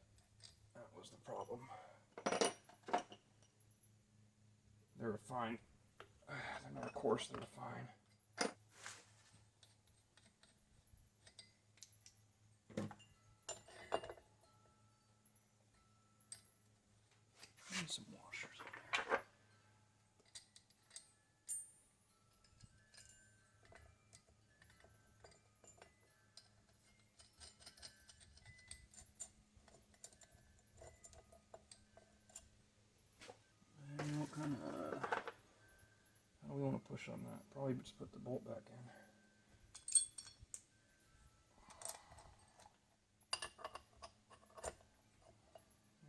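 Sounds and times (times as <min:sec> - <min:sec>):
metal tools clicking and clinking: 0:02.1 - 0:03.5, 0:06.7 - 0:15.0, 0:15.6 - 0:45.9.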